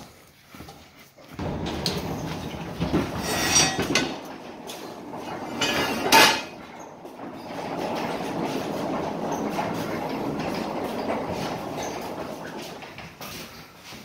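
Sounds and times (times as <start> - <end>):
pallet jack wheels rattling: 1.4 - 14.0.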